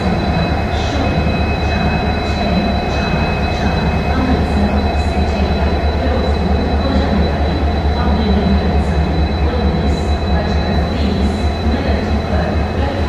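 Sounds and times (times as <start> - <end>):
diesel locomotive engine humming: 0.0 - 13.0
thin high whine: 0.0 - 13.0.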